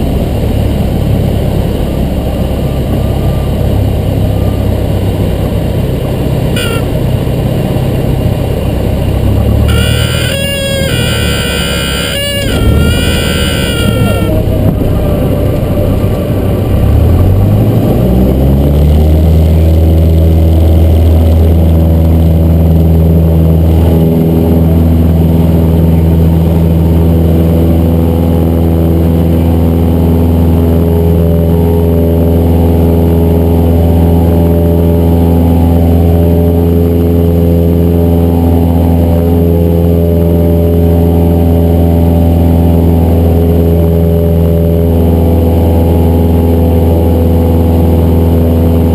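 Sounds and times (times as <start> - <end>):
propeller plane engine revving: 0.0 - 48.9.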